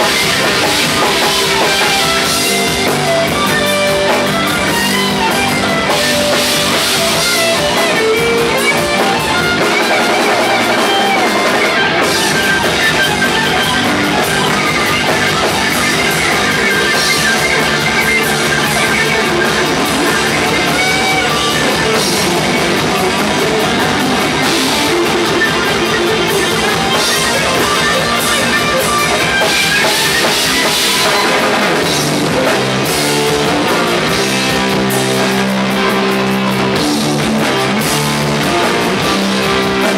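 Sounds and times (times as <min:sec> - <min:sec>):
drum kit: 0:00.0 - 0:39.9
electric guitar: 0:00.0 - 0:39.9
rock band playing: 0:00.0 - 0:39.9.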